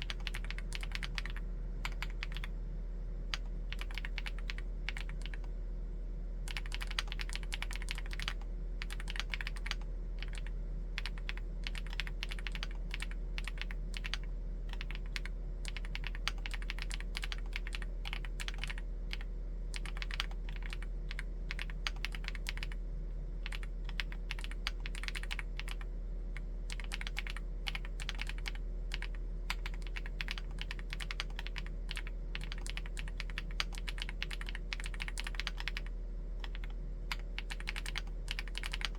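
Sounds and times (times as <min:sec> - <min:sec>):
mechanical keyboard typing: 0:00.0 - 0:02.5, 0:03.3 - 0:05.5, 0:06.5 - 0:22.8, 0:23.4 - 0:25.8, 0:26.7 - 0:38.9.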